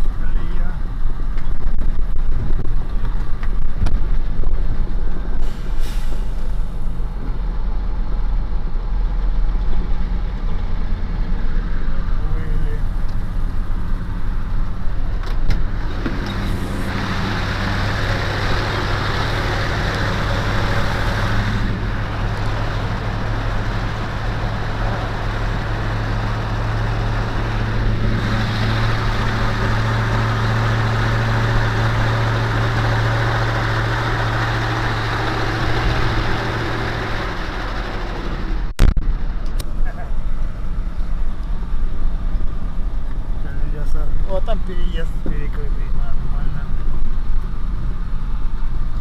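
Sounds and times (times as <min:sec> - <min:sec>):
tyre and road noise: 0:00.0 - 0:49.0
vehicle engine drone: 0:00.0 - 0:49.0.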